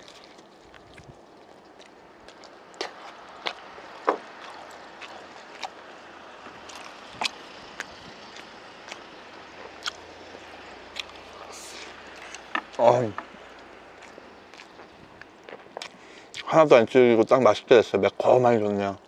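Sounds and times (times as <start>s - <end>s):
person chewing with mouth smacks: 0.0s - 16.5s.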